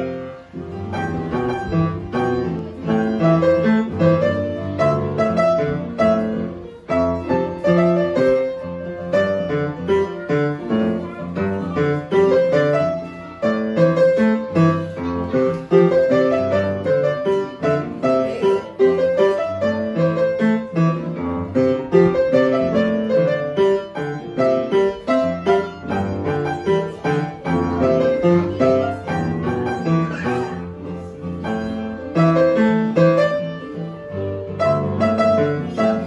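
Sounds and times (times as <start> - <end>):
solo grand piano: 0.0 - 36.0.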